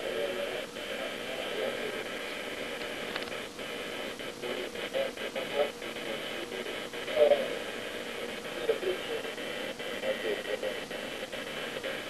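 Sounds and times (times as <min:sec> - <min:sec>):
faint indistinct voices: 0:00.0 - 0:12.0
room noise: 0:00.0 - 0:12.0.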